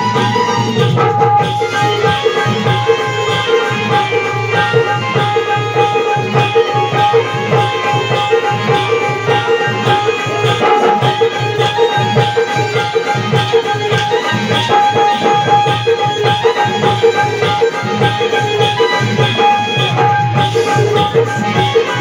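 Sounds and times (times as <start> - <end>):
barrel drum fast rhythm: 0.0 - 22.0.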